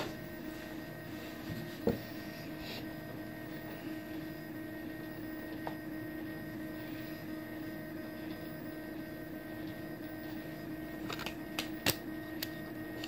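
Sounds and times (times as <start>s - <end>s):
hum of fans and stepper motors: 0.0s - 13.0s.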